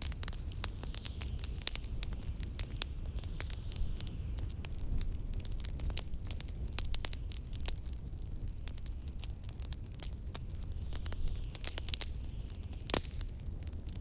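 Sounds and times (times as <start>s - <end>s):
low rumble of wind: 0.0s - 14.0s
wood fire crackling: 0.0s - 14.0s.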